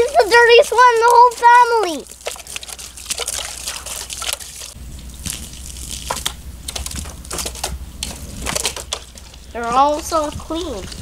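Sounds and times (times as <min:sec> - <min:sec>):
water ticking on plastic: 0:00.0 - 0:11.0.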